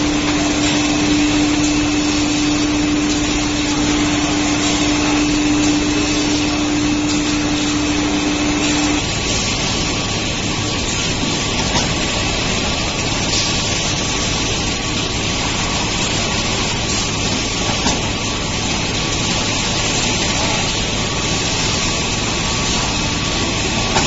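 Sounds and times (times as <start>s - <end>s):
packing machine running: 0.0s - 24.0s.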